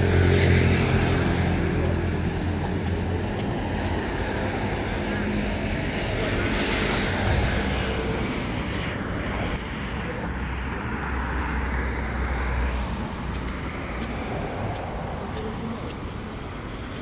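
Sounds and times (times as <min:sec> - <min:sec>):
low traffic rumble: 0:00.0 - 0:17.0
vehicles passing: 0:00.0 - 0:17.0.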